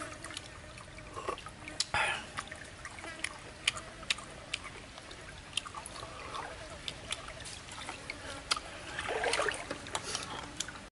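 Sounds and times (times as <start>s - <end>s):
stream trickling: 0.0s - 10.9s
handling and eating noise: 1.1s - 10.9s.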